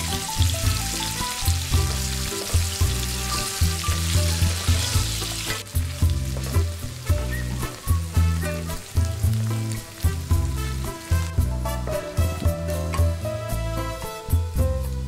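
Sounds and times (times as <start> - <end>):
background music with bass beat: 0.0 - 15.0
food sizzling in hot oil: 0.0 - 15.0.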